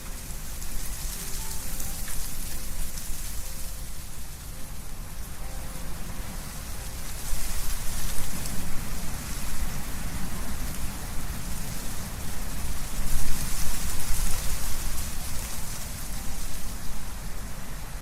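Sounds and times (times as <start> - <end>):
leaves rustling: 0.0 - 18.0
wind blowing through trees: 0.0 - 18.0.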